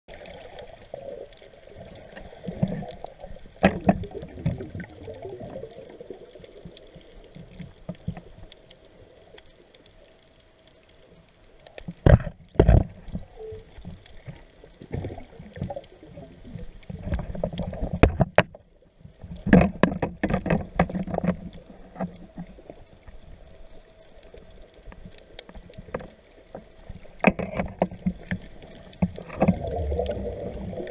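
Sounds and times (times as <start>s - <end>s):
water sloshing underwater: 0.1s - 30.9s.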